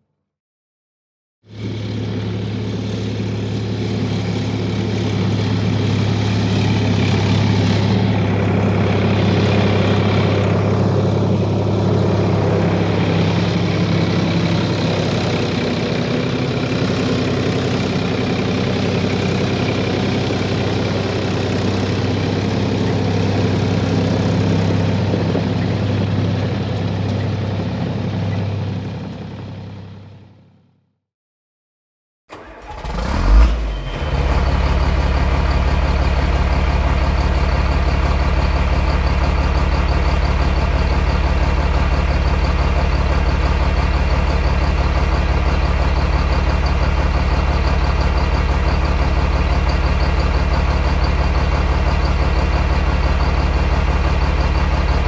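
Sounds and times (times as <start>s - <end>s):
heavy engine droning: 1.4s - 30.5s, 32.3s - 55.0s.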